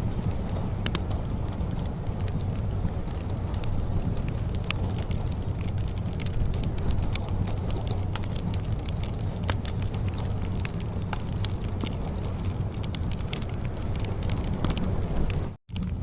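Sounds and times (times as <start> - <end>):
fire crackling and popping: 0.0 - 16.0
low rumble: 0.0 - 16.0.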